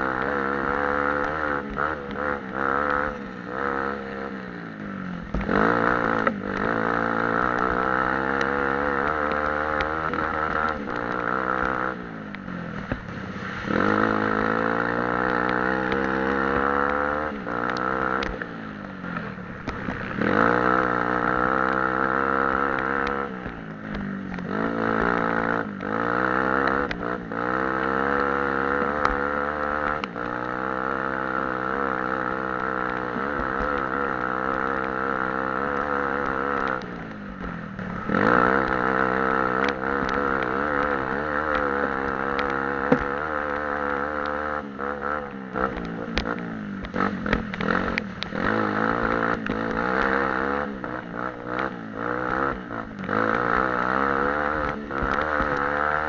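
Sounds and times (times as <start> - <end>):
off-road engine revving: 0.0 - 56.0.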